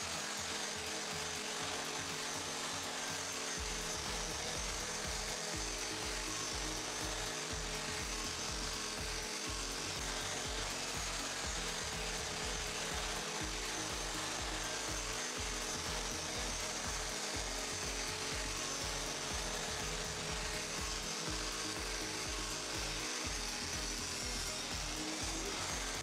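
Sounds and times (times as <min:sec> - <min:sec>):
angle grinder grinding steel: 0:00.0 - 0:26.0
background music with bass: 0:00.0 - 0:26.0.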